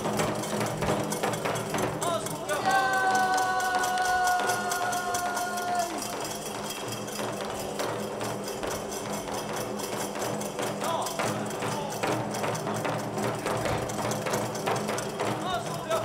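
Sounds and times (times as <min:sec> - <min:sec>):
drum beating fast rhythm: 0:00.0 - 0:16.0
small hand cymbals: 0:00.0 - 0:16.0.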